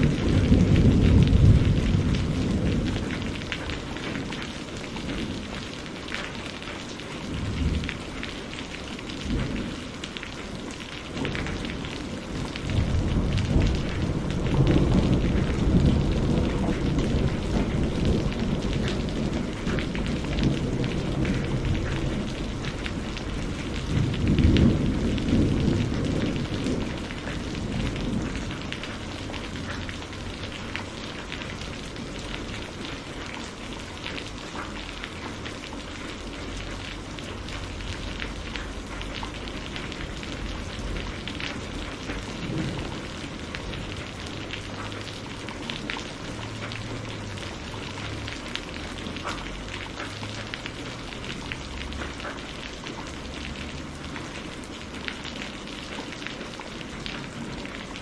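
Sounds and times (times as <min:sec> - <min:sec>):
thunder rumbling: 0:00.0 - 0:06.4, 0:07.2 - 0:33.8, 0:34.4 - 0:52.2
steady rainfall: 0:00.0 - 0:58.0.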